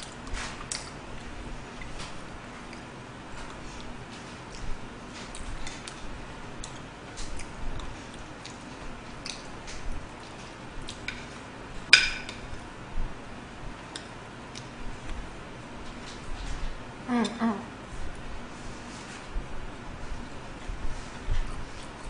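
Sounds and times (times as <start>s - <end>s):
soft chewing: 0.0s - 11.5s, 13.7s - 19.4s, 20.0s - 22.0s.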